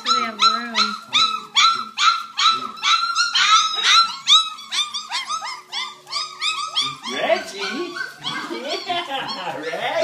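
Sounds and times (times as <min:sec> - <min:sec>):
puppies squealing and yelping: 0:00.0 - 0:10.0.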